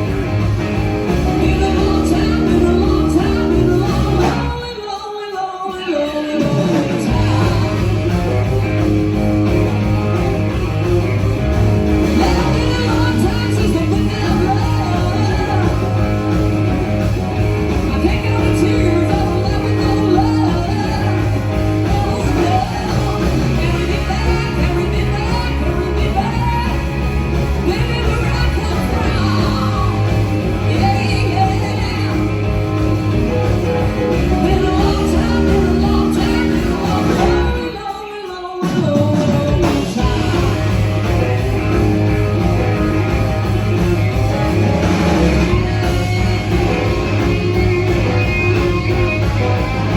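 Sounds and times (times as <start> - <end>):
rock and roll song with singing: 0.0 - 49.9.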